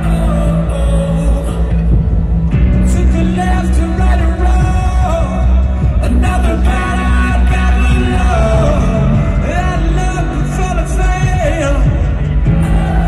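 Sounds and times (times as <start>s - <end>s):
man singing into microphone: 0.0s - 2.1s, 2.8s - 13.0s
live rock band playing: 0.0s - 13.0s.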